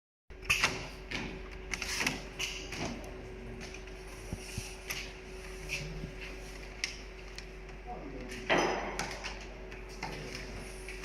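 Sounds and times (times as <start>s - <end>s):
electrical hum: 0.3s - 11.0s.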